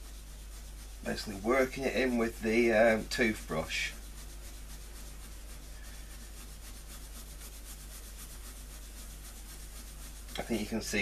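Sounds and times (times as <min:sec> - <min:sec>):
toothbrush scrubbing fabric: 0:00.0 - 0:11.0.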